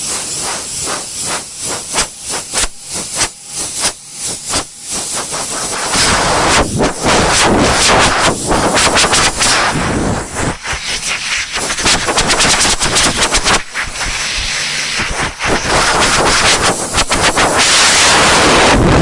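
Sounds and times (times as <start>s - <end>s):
air compressor rattling: 0.0s - 18.4s
air hissing: 0.0s - 19.0s.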